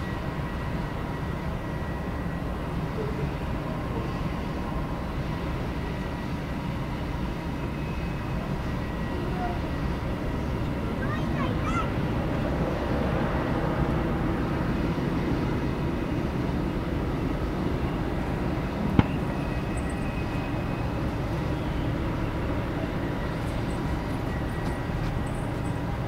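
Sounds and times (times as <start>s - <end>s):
jet landing rumble: 0.0s - 26.0s.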